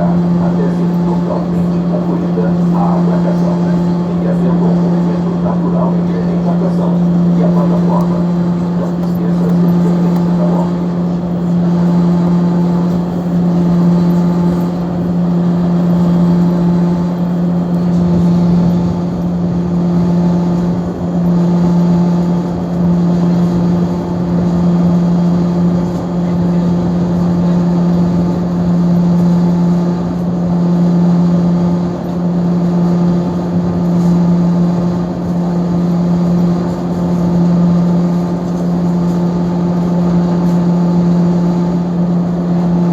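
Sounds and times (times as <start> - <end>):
ferry diesel engine drone: 0.0 - 42.9.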